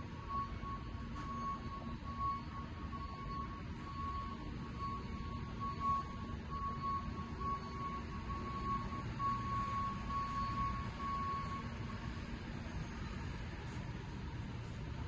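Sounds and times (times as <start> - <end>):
high-pitched warning beep: 0.0 - 13.8
heavy machine engine rumbling: 0.0 - 15.0.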